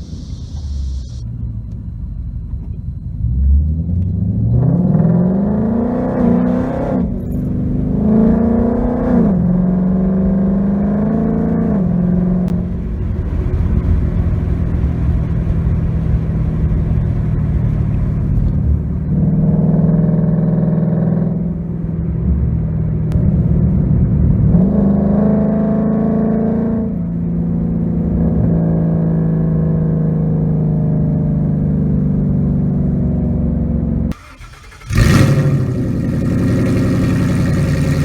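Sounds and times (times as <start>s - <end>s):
loud car engine accelerating: 3.2s - 38.0s.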